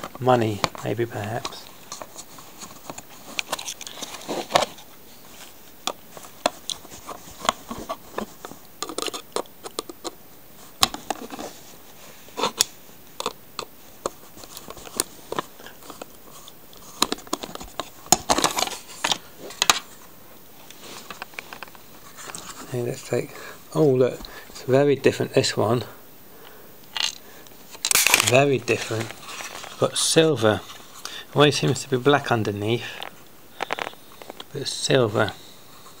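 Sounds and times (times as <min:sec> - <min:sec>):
hands handling plastic packaging: 0:00.0 - 0:23.2, 0:26.9 - 0:36.0.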